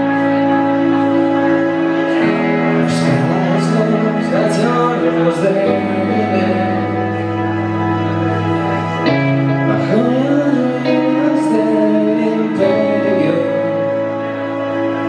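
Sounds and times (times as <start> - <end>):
electric guitars: 0.0 - 15.0
live band playing: 0.0 - 15.0
person singing: 0.0 - 15.0.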